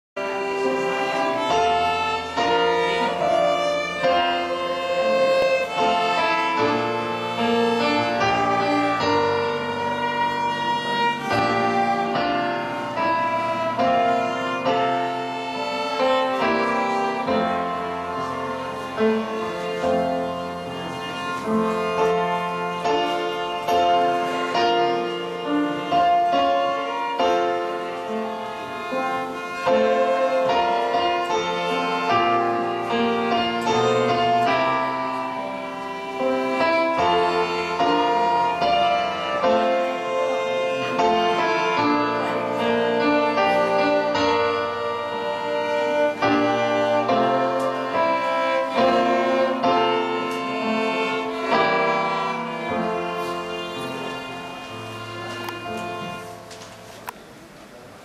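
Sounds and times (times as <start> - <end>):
violins playing slow melody: 0.2 - 57.8
piano accompaniment: 0.2 - 58.0.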